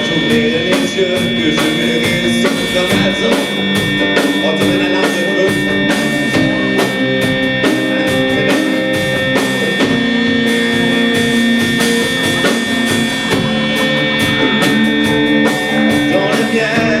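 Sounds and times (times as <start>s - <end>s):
drum kit: 0.0s - 17.0s
electric guitar: 0.0s - 17.0s
steady high-pitched tones: 0.0s - 17.0s.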